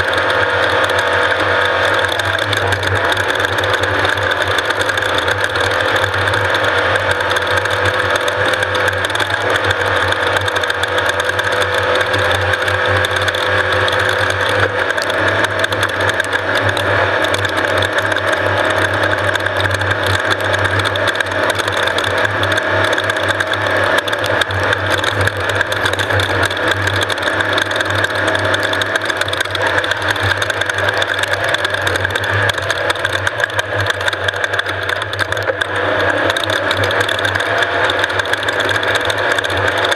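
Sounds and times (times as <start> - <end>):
mechanical rattle: 0.0 - 39.9
vehicle engine running: 0.0 - 39.9.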